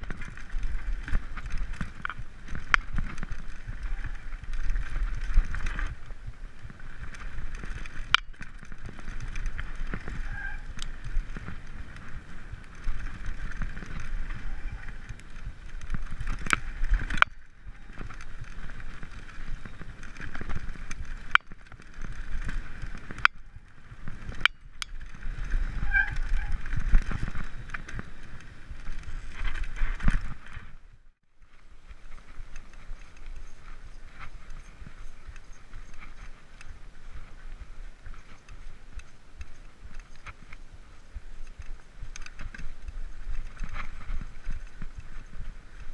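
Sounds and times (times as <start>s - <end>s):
bike clicks and knocks: 0.0s - 30.8s, 31.9s - 45.9s
bike tyres rumbling and rattling: 0.0s - 45.9s.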